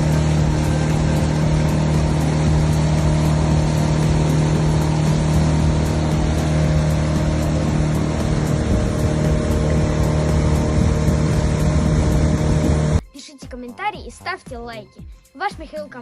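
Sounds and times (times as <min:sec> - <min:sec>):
engine droning steadily: 0:00.0 - 0:13.0.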